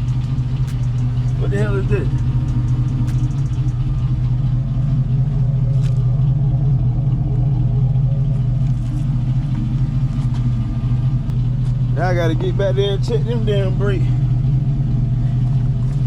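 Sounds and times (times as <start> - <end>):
engine droning rumble: 0.0 - 16.0.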